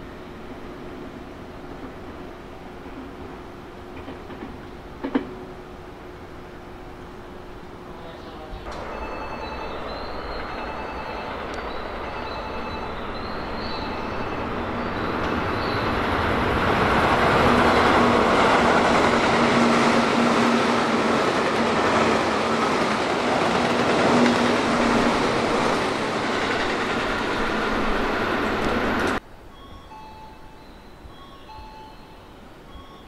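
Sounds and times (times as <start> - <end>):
train wheels rumbling on rail: 0.1 - 29.2.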